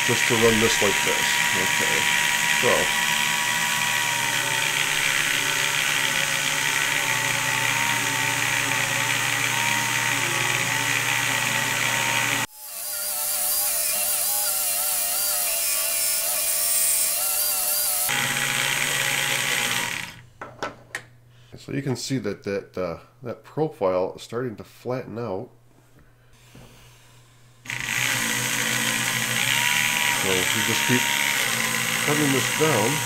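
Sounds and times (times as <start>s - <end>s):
small electric motor whining: 0.0s - 20.2s, 26.4s - 33.0s.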